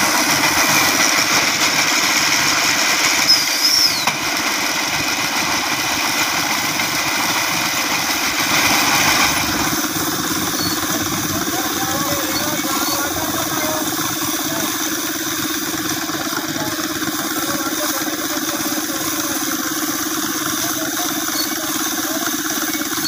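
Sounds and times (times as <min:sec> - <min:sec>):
bale wrapping machine droning: 0:00.0 - 0:23.0.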